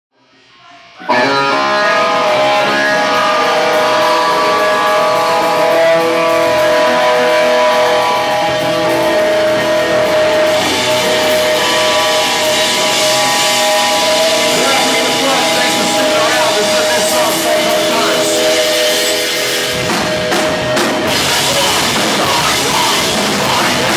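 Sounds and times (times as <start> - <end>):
electric guitars ringing: 0.9 - 23.9
live rock band playing: 1.0 - 23.9.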